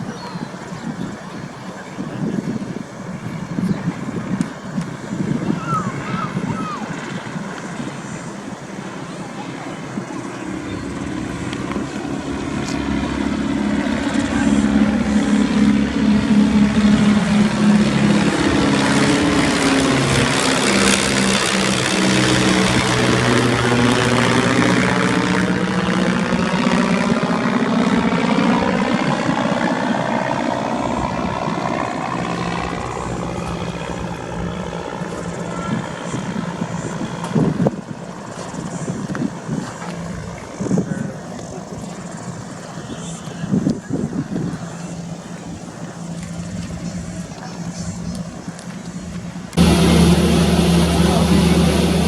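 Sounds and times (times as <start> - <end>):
propeller aircraft engine drone: 0.0 - 52.0.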